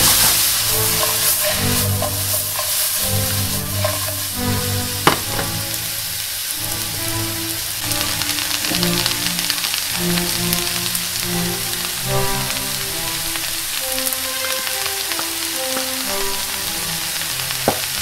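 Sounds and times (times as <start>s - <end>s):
background music: 0.0s - 18.0s
vegetables sizzling in a frying pan: 0.0s - 18.0s.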